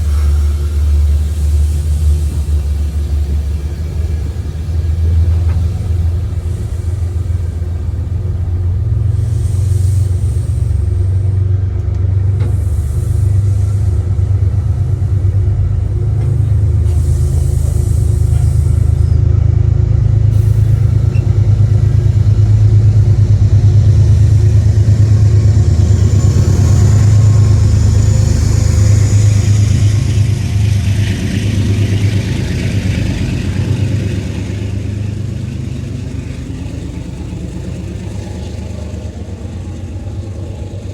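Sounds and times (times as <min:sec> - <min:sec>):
diesel locomotive rumbling past: 0:00.0 - 0:40.9.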